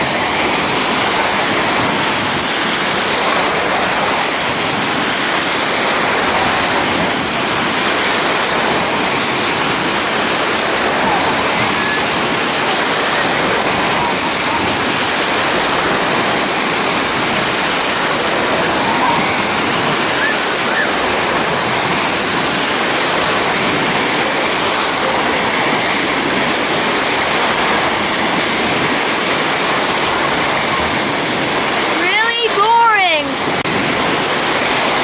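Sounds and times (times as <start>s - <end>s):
falling and splashing water: 0.0s - 35.0s.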